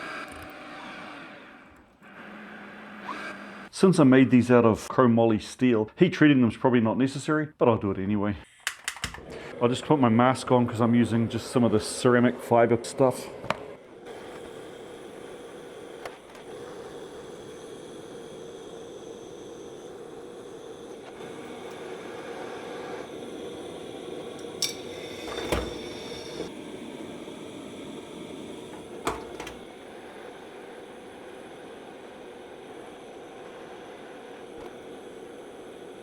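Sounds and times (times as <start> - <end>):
gas torch hissing: 0.0 - 3.7, 8.9 - 36.0.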